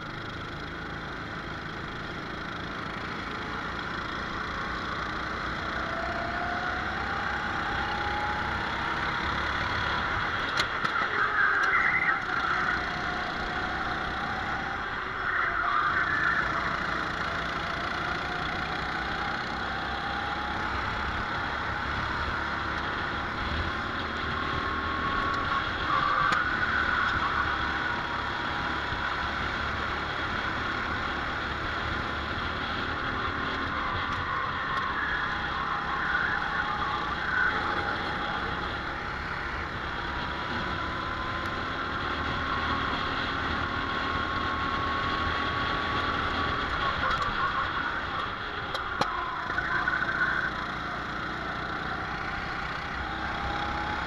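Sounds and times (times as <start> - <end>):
go-kart engine racing: 0.0 - 54.0
other karts nearby: 0.0 - 54.0.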